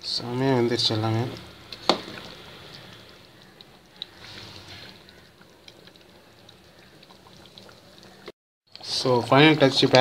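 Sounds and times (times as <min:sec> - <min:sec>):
curry bubbling in a pot: 0:00.0 - 0:08.3.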